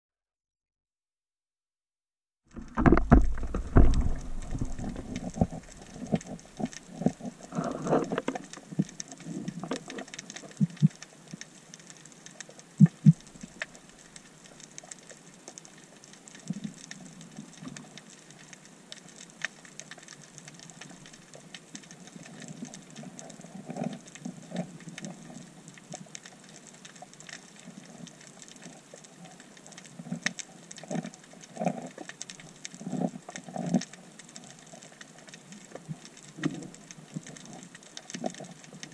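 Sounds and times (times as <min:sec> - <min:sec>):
underwater crackling clicks: 0:02.5 - 0:38.9.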